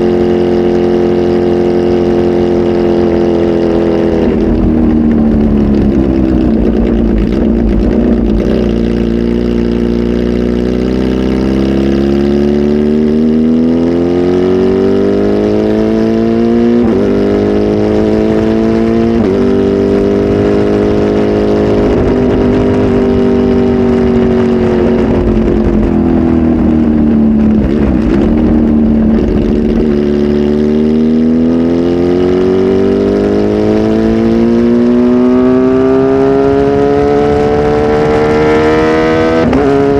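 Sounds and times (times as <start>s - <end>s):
loud motorcycle engine revving: 0.0s - 39.9s.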